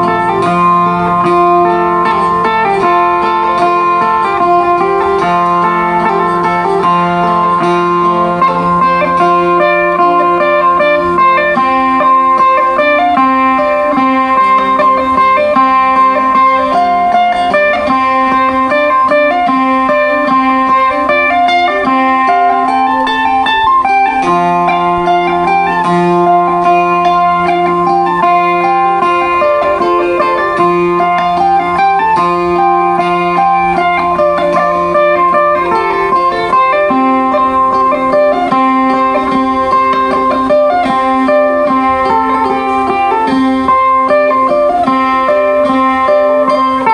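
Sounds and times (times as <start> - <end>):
plucked lute melody: 0.0 - 46.9.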